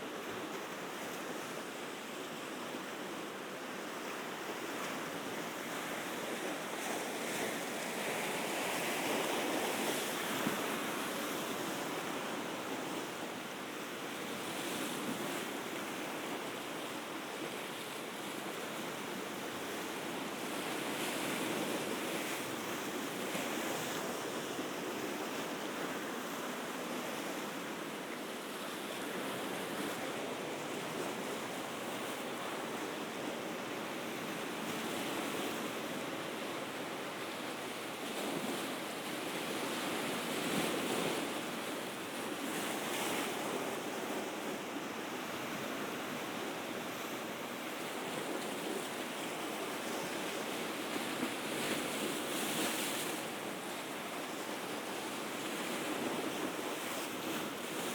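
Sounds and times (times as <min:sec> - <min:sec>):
sea waves washing on shore: 0:00.0 - 0:57.9.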